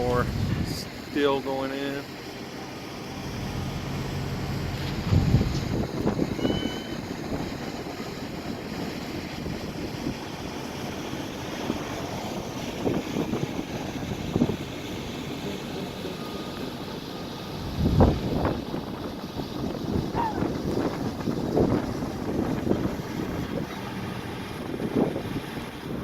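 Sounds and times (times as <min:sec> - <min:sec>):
wind buffeting microphone: 0:00.0 - 0:01.1, 0:03.4 - 0:26.0
street traffic passing: 0:00.0 - 0:26.0.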